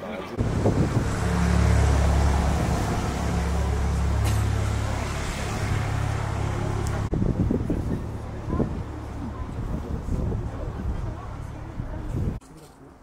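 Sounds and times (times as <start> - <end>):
engine running with low hum: 0.4 - 12.4.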